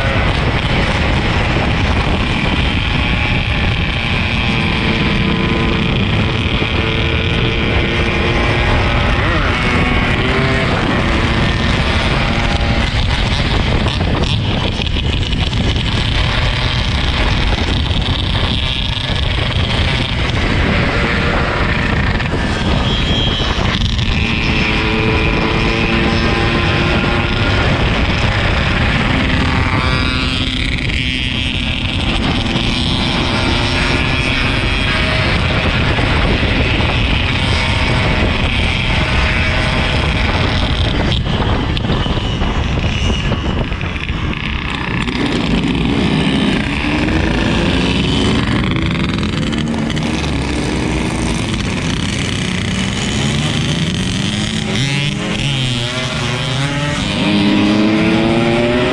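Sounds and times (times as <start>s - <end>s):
motorcycle engine revving: 0.0s - 58.9s
wind buffeting microphone: 0.0s - 58.9s.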